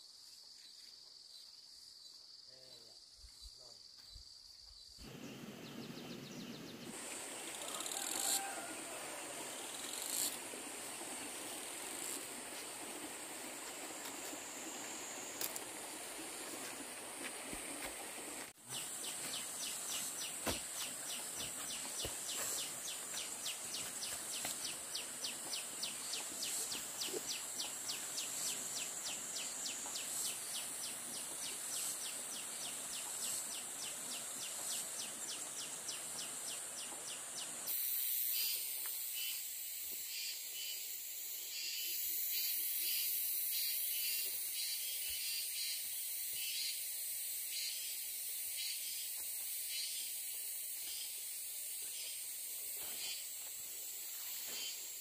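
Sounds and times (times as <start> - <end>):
insects chirping: 0.0 - 55.0
thin insect chorus: 0.0 - 55.0.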